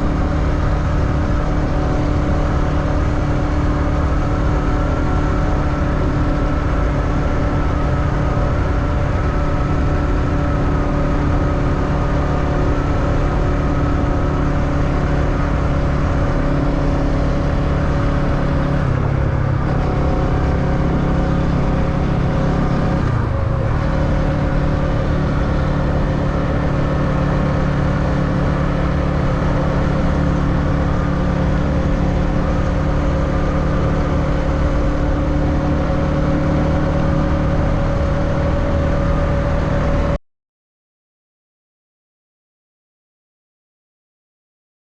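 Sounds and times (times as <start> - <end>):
motorbike engine running: 0.0 - 40.2.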